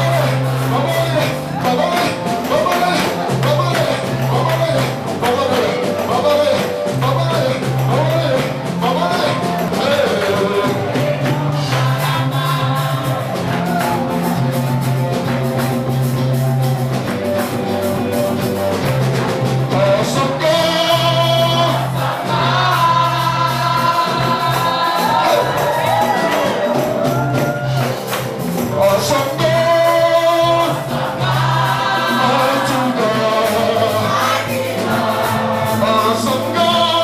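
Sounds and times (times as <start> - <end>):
gospel music with singers: 0.0 - 37.0.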